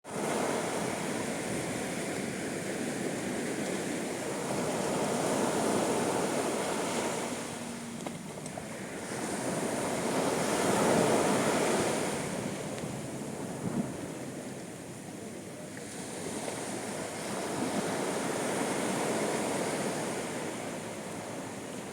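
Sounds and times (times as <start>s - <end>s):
sea waves breaking on beach: 0.0s - 21.9s.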